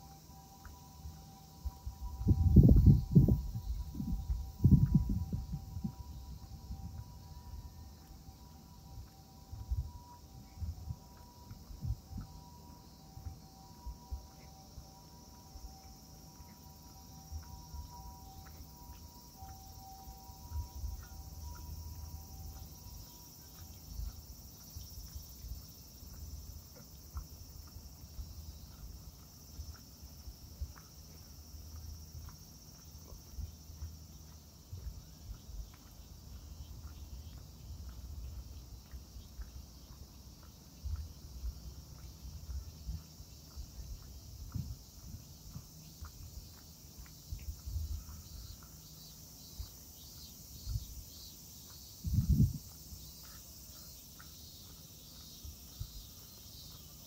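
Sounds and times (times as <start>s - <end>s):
cicadas singing: 0.0s - 57.0s.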